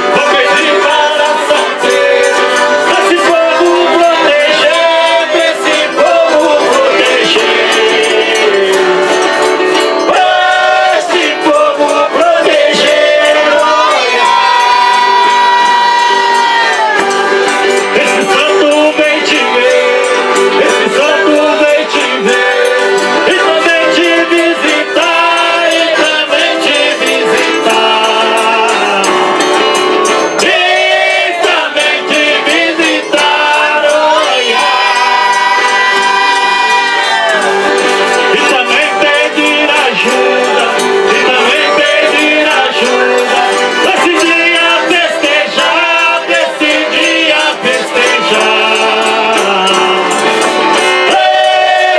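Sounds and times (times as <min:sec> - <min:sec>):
button accordion playing: 0:00.0 - 0:51.9
shaker rhythm: 0:00.0 - 0:51.9
tambourine rhythm: 0:00.0 - 0:51.9
voices singing: 0:00.0 - 0:51.9.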